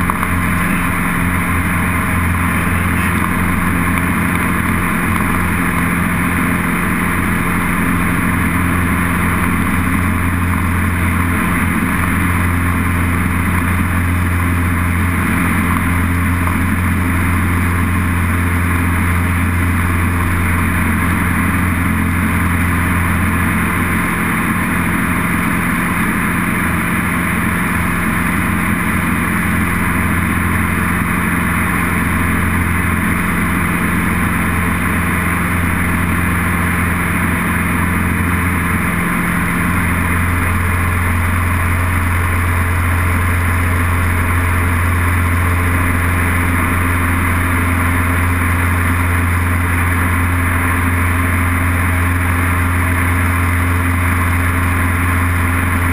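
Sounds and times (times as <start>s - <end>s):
airplane engine and propeller droning: 0.0s - 55.9s.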